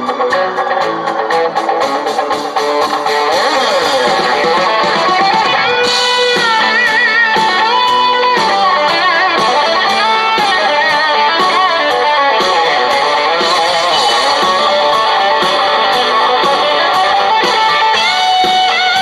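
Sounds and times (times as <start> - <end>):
electric guitar: 0.0 - 19.0
steady drumbeat: 0.0 - 19.0.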